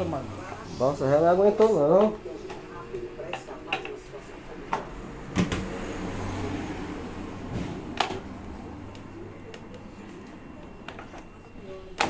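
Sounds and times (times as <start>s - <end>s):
electric fan motor humming: 0.0s - 12.0s.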